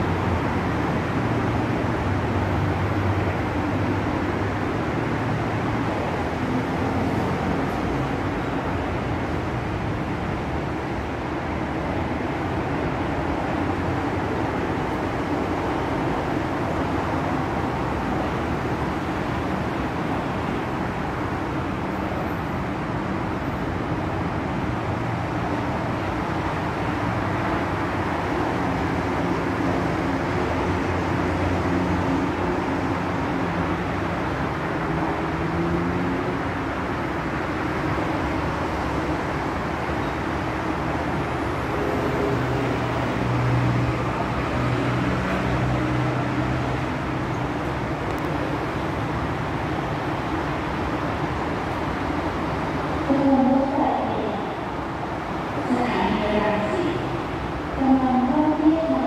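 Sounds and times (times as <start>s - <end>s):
distant traffic drone: 0.0s - 59.0s.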